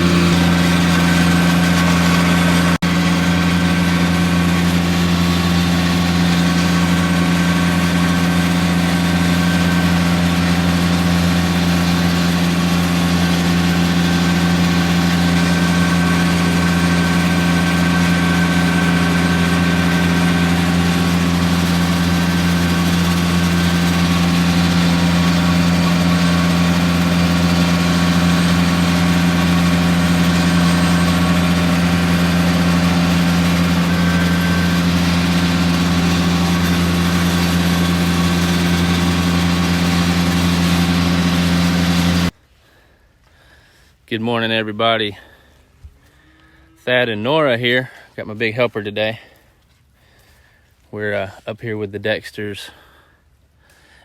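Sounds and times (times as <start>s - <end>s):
engine humming steadily: 0.0s - 44.0s.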